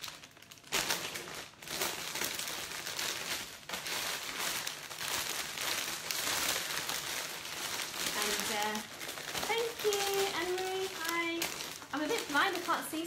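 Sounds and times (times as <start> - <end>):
cellophane crinkling: 0.0 - 13.0.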